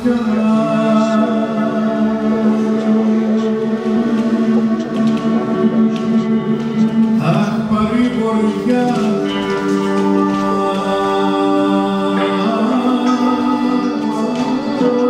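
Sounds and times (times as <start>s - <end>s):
long held notes over drone: 0.0s - 15.0s
person singing: 0.0s - 15.0s.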